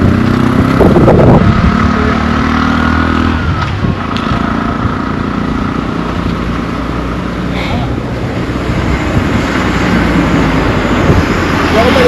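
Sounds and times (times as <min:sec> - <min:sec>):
wind noise on microphone: 0:00.0 - 0:06.8, 0:07.4 - 0:12.0
vehicle engine passing: 0:00.0 - 0:12.0.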